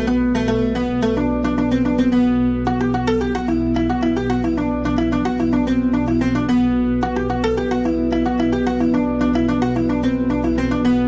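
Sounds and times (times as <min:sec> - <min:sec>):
fast plucked-string melody: 0:00.0 - 0:11.0.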